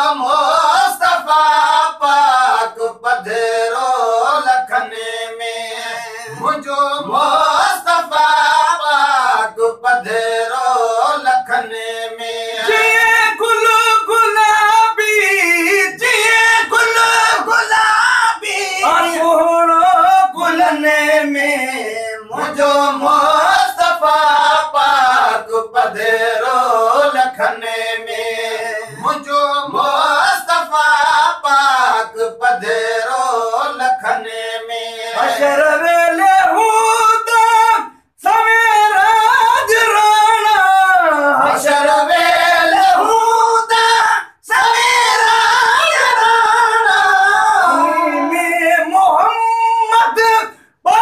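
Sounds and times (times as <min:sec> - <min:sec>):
men singing slow song: 0:00.0 - 0:51.0.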